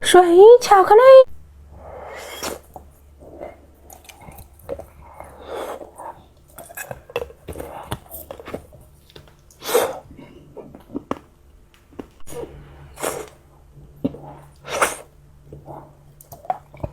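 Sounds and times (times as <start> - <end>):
chewing sticky candy: 2.0 - 16.9.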